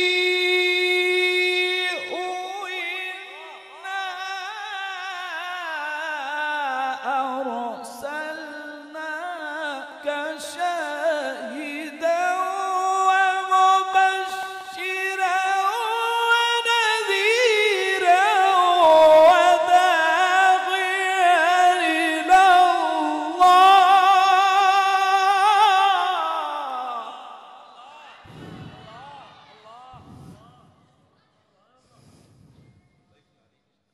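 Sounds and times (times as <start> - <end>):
man reciting melodically: 0.0 - 27.6.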